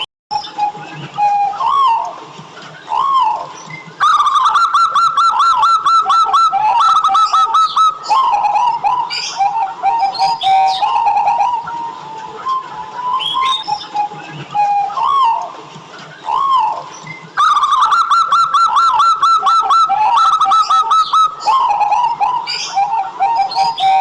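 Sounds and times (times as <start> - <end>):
dove singing and cooing: 0.3 - 24.0
faint high bird chirps: 2.8 - 15.5, 16.2 - 24.0.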